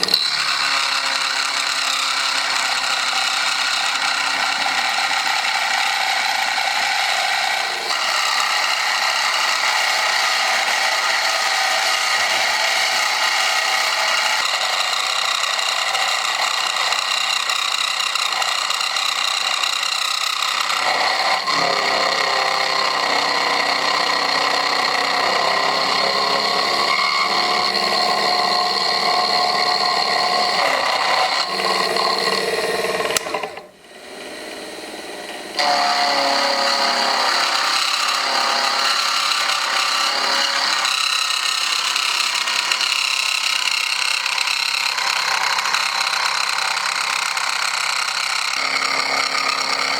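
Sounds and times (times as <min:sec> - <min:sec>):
milling machine whining: 0:00.0 - 0:49.9.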